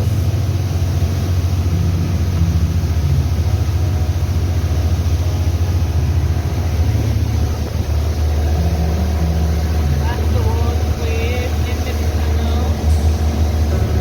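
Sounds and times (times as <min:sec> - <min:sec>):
boat engine rumbling: 0:00.0 - 0:14.0
water and wind noise: 0:00.0 - 0:14.0.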